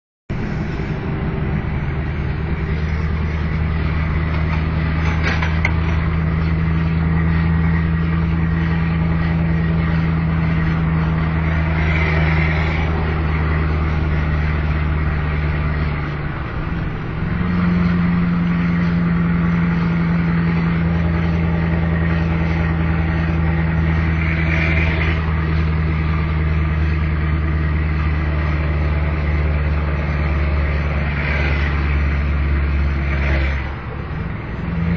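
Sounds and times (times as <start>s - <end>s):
truck diesel engine under load: 0.3s - 34.9s.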